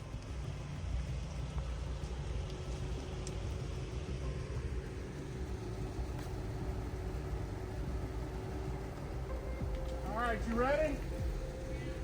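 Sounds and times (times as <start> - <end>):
off-road vehicle engine idling: 0.0 - 12.0.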